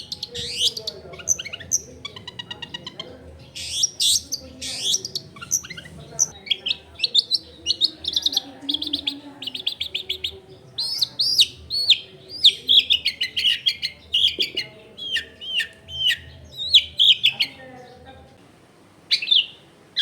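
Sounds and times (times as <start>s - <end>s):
bird singing: 0.0s - 18.4s, 19.1s - 20.0s.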